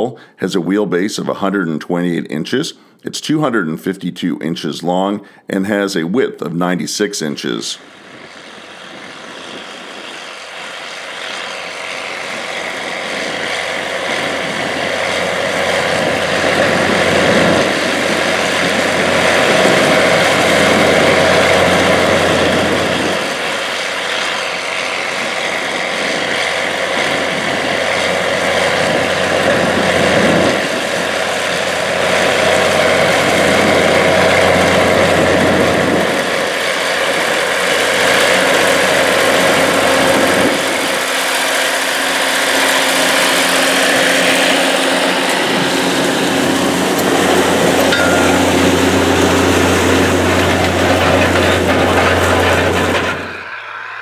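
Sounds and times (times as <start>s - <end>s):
tractor diesel engine running: 7.8s - 54.0s.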